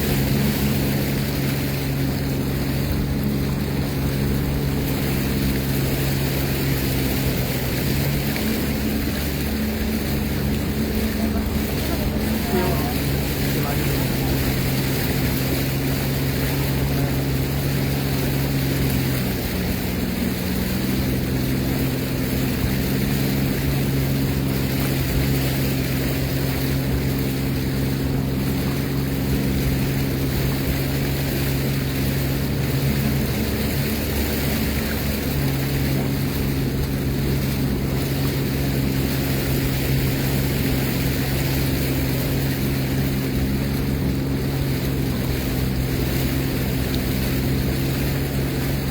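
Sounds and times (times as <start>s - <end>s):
personal watercraft engine running: 0.0s - 48.9s
rushing water: 0.0s - 48.9s
wind: 0.0s - 48.9s.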